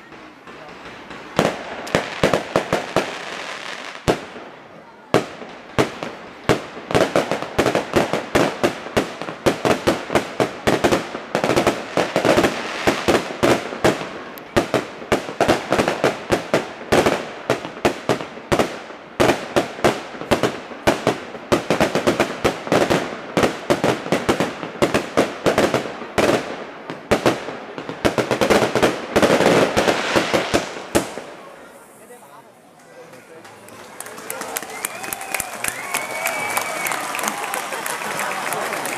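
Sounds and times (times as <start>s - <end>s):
fireworks bangs and crackles: 0.0s - 32.4s.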